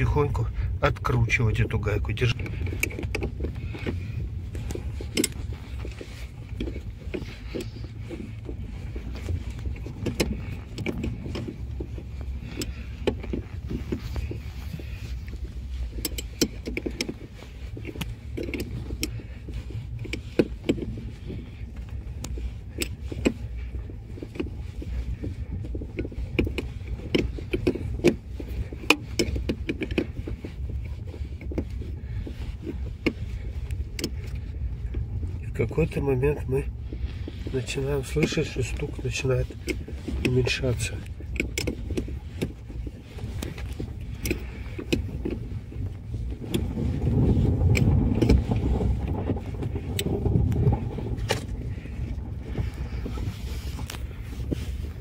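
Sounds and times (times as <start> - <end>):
road rumble: 0.0 - 55.0
suspension knocking: 0.0 - 55.0.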